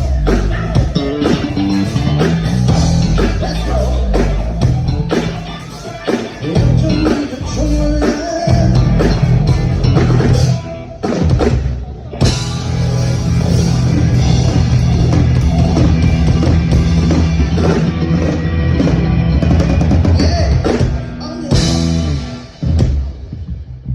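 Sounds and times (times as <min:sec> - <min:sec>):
electric bass low notes: 0:00.0 - 0:05.6, 0:06.3 - 0:10.8, 0:12.2 - 0:23.9
rock band playing live: 0:00.0 - 0:23.9.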